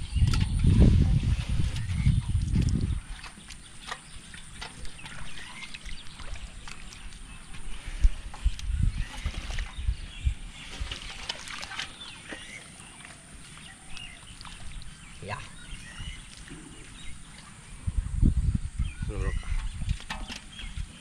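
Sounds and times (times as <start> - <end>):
splashing in muddy water: 0.0 - 17.8.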